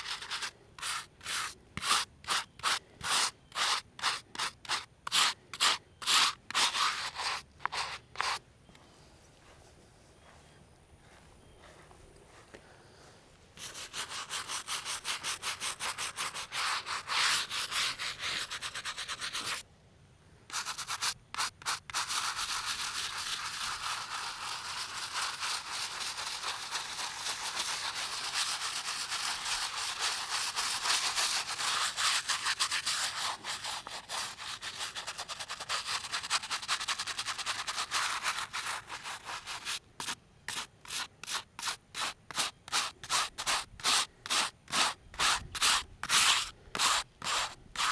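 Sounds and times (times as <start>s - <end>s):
brush scrubbing stone: 0.0s - 8.4s, 13.6s - 19.6s, 20.5s - 47.9s.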